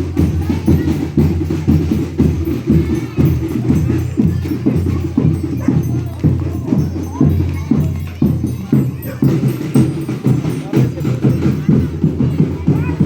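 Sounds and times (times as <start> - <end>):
drum and tambourine rhythm: 0.0 - 13.0.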